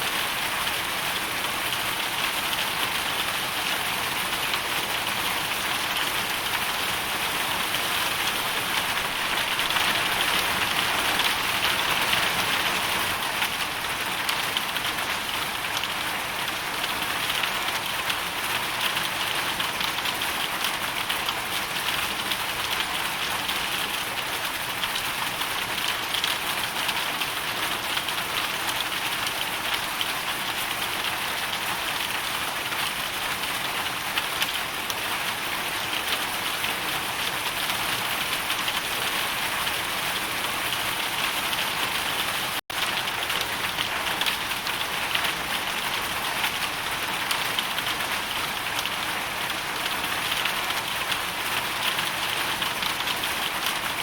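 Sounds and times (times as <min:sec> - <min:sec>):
hail and rain pelting down: 0:00.1 - 0:54.0.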